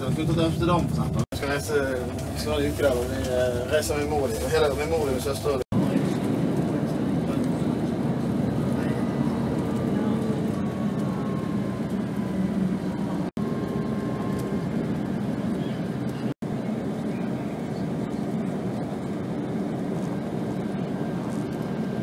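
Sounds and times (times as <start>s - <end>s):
bus engine and tyres rumbling: 0.0s - 22.0s.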